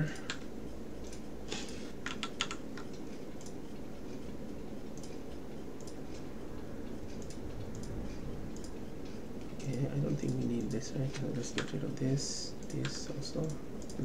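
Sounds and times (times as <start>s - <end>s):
keyboard and mouse clicks: 0.0s - 11.9s, 12.6s - 14.0s
low room hum: 0.0s - 14.0s.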